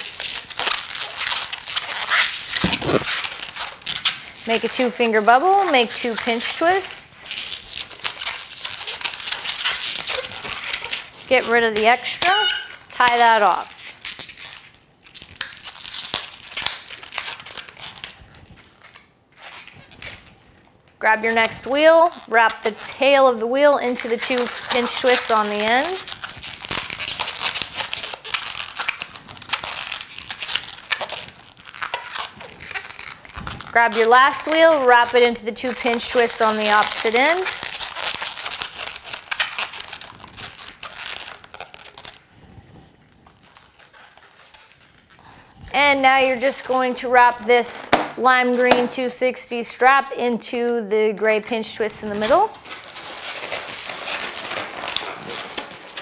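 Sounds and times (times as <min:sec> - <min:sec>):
balloon rubber rubbing and crinkling: 0:00.0 - 0:56.0.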